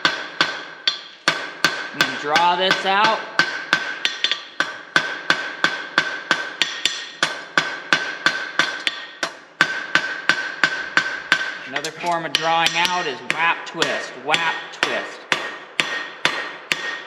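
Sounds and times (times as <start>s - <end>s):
hammer ringing on anvil: 0.1s - 17.0s.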